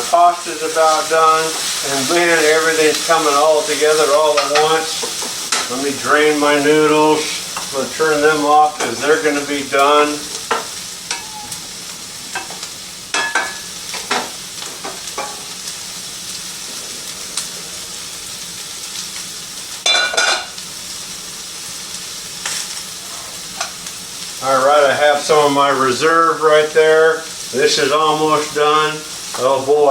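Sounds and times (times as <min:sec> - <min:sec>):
chicken sizzling in a pan: 0:00.0 - 0:29.9.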